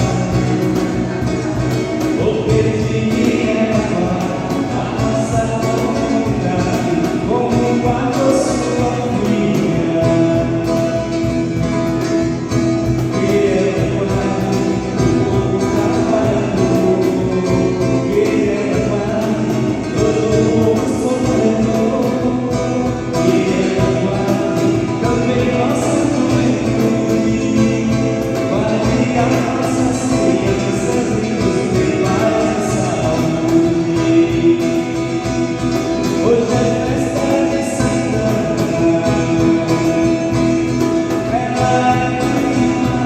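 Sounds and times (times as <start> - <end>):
group singing a hymn: 0.0 - 43.0
instrumental accompaniment: 0.0 - 43.0.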